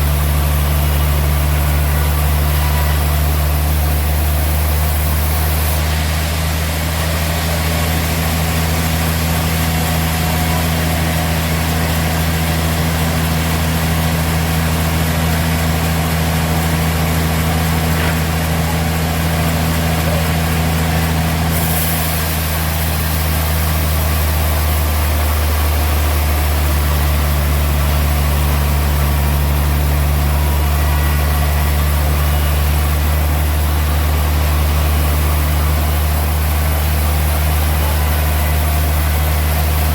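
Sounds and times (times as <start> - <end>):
low engine hum: 0.0 - 39.9
steady rush of machinery noise: 0.0 - 39.9.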